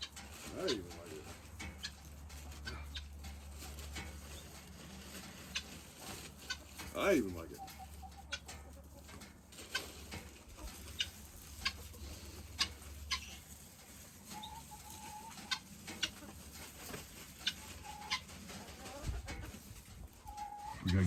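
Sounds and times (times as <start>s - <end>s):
chicken held calls: 0.0s - 21.0s
chickens clucking: 0.0s - 21.0s.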